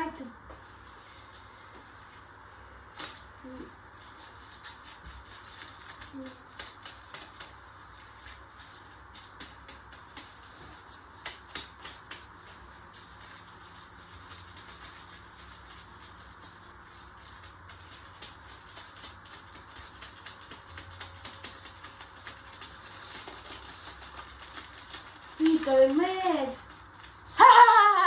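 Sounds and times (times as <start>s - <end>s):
washing machine humming: 0.0s - 28.0s.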